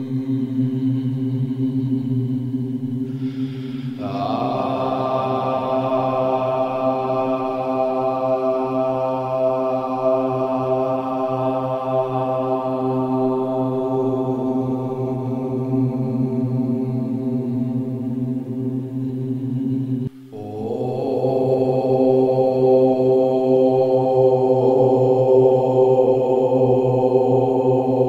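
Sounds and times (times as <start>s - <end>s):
chanted drone: 0.0s - 28.0s.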